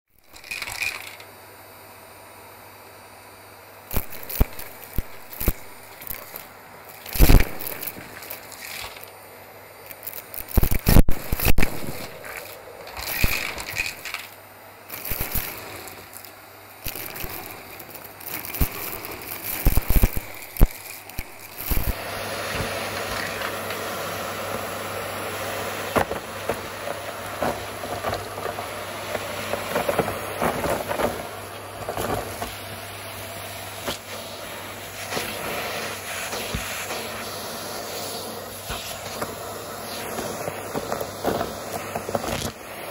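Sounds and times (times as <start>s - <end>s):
steady machine noise: 3.1s - 42.9s.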